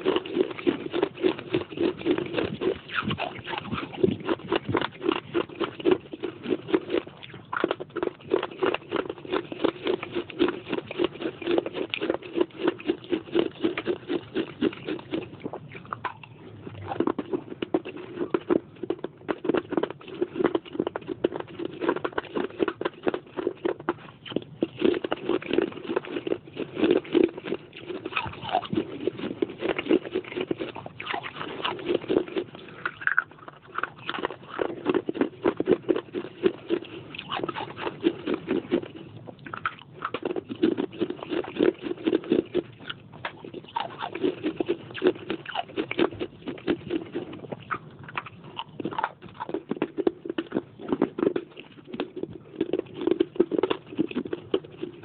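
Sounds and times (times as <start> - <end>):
baked clay being chewed: 0.0 - 55.0.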